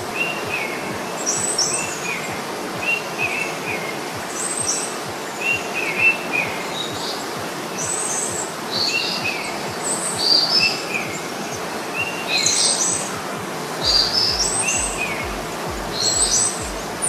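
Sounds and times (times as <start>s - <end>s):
birds chirping: 0.0s - 17.0s
steady background hiss: 0.0s - 17.0s.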